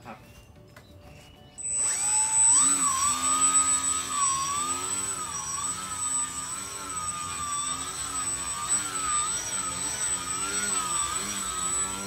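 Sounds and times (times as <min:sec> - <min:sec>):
rc airplane motor buzzing: 0:01.6 - 0:12.0.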